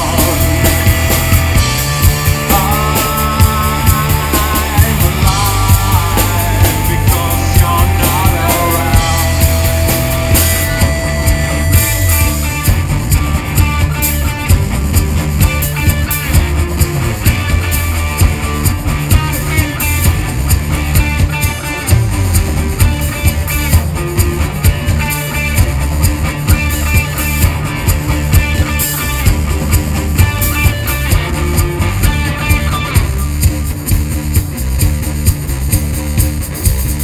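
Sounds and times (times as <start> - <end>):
drum kit beat: 0.0 - 37.0
electric bass: 0.0 - 37.0
electric guitar: 0.0 - 37.0.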